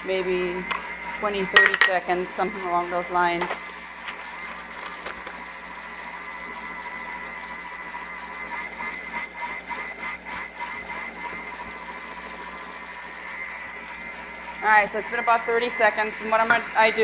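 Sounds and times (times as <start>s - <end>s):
kitchen mixer motor whining: 0.0s - 17.0s.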